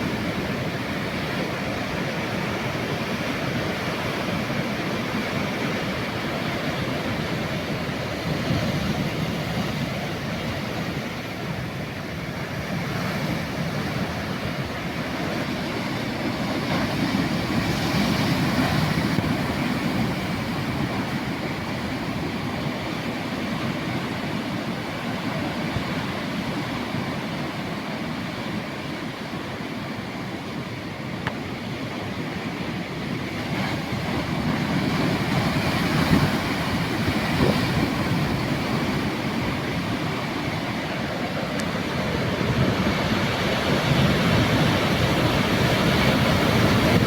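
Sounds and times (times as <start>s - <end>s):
waves washing on shore: 0.0s - 47.0s.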